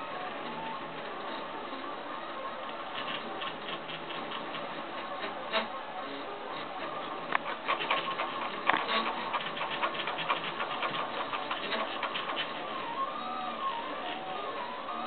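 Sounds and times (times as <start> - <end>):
faint motor whine: 0.0 - 15.0
printer stepper motors ticking: 0.0 - 15.0.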